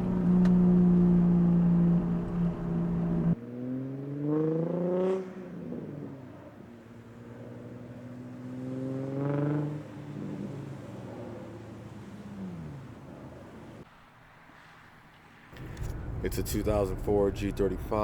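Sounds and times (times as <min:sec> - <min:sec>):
car engine revving: 0:00.0 - 0:13.8, 0:15.6 - 0:18.0
car engine droning: 0:00.0 - 0:13.9, 0:15.5 - 0:18.0.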